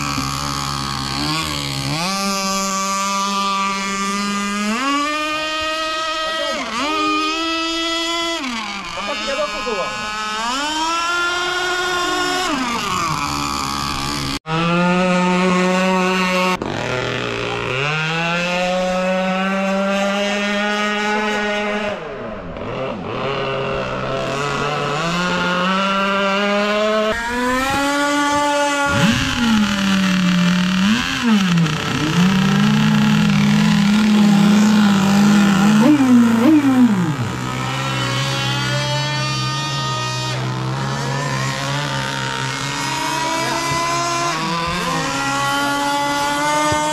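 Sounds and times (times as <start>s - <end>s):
small two-stroke engine running hard: 0.0s - 46.9s.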